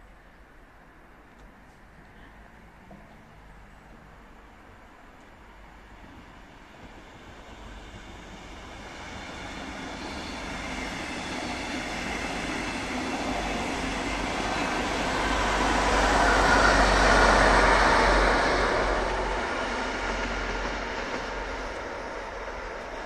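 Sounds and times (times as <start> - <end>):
train wheel and rail noise: 0.0 - 23.0.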